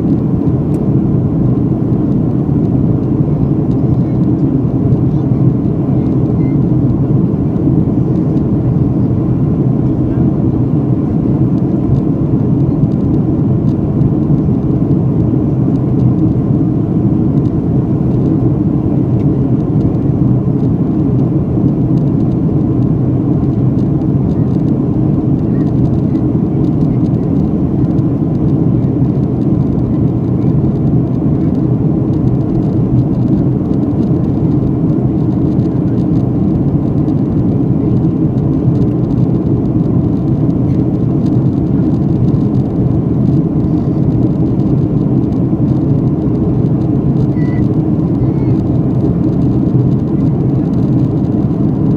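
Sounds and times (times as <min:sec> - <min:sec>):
airliner cabin roar: 0:00.0 - 0:51.9.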